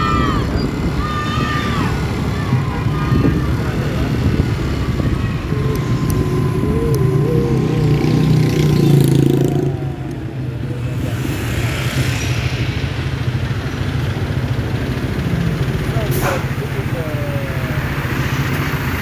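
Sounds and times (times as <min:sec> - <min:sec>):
street traffic: 0:00.0 - 0:19.0
vehicle engine running: 0:02.0 - 0:19.0.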